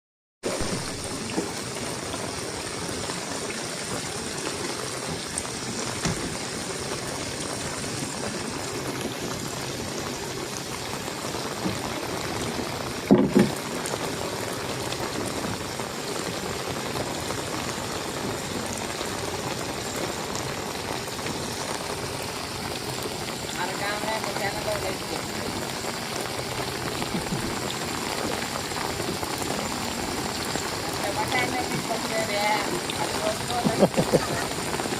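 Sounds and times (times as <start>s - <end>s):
heavy rain hissing: 0.4s - 34.9s.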